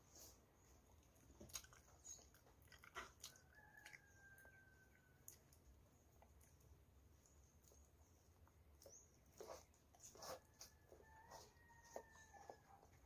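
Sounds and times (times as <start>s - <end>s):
chewing soft food: 0.7s - 13.0s.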